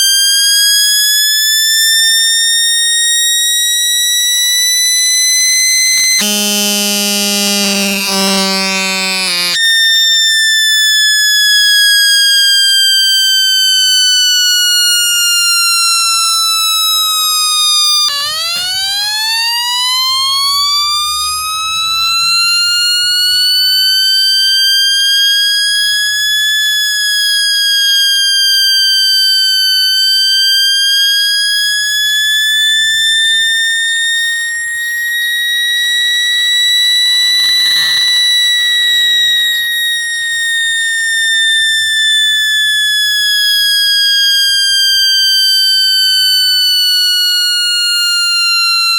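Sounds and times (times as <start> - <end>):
electronic siren buzzy tone: 0.0 - 48.9.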